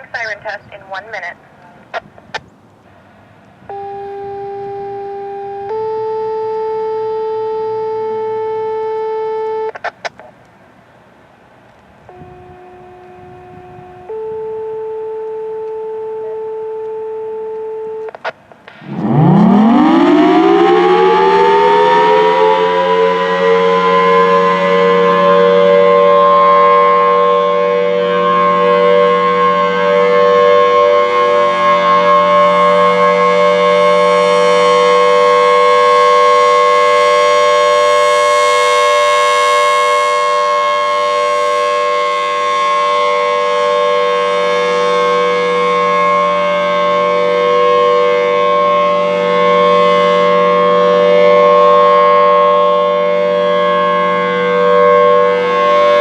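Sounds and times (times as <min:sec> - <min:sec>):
warning siren steady tone: 0:02.9 - 0:09.9, 0:12.0 - 0:56.0.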